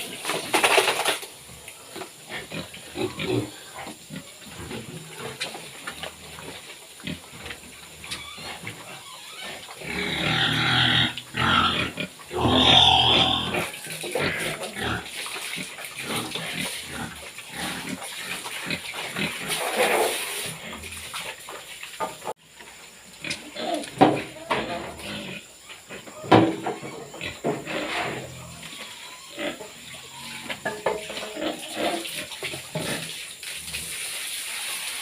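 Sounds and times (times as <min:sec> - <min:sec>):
pigs grunting and squealing: 0:00.0 - 0:21.5, 0:23.2 - 0:33.2.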